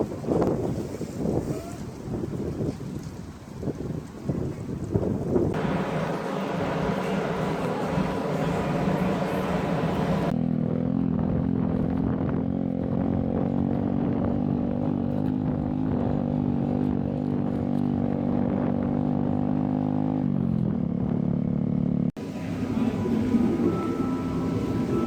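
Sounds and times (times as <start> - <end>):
engine running steadily: 4.9 - 25.0.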